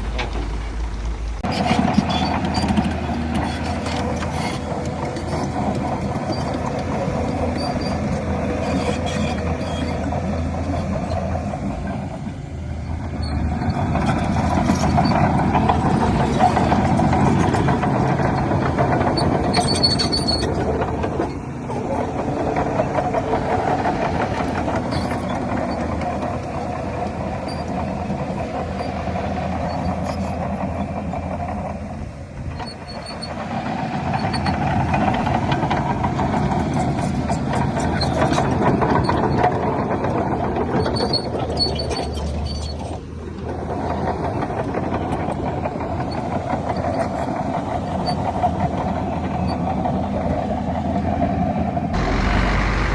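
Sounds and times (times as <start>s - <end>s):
heavy diesel machine engines: 0.0s - 52.9s.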